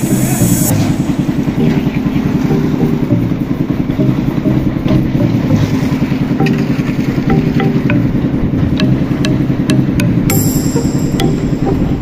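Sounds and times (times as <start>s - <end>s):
concrete mixer engine rumbling: 0.0s - 12.0s.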